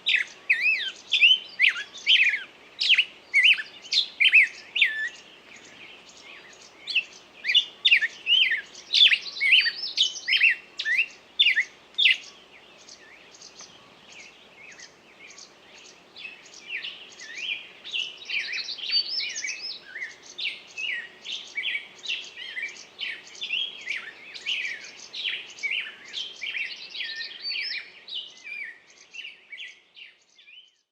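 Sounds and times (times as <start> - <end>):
bird singing high chirps: 0.0 - 30.9.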